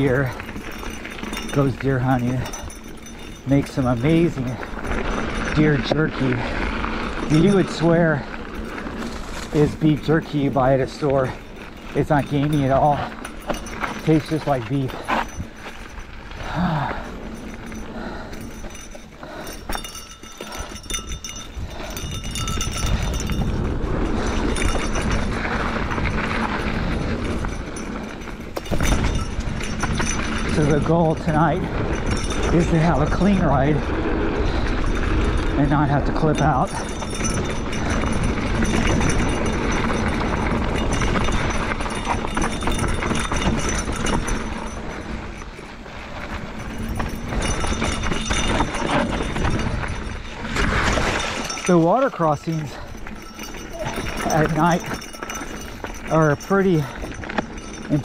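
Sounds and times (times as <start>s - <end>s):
bike clattering over bumps: 0.0s - 58.0s
bike tyres rolling on dirt: 0.0s - 58.0s
tyre and wind rush: 0.0s - 58.0s.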